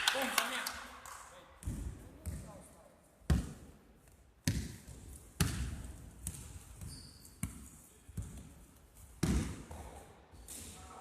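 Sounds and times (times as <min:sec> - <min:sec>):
basketball bouncing on hall floor: 0:01.6 - 0:10.8.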